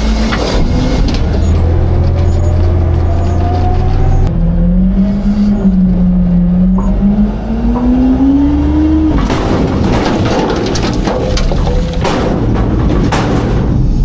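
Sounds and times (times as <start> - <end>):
garbage truck engine revving: 0.0 - 14.0.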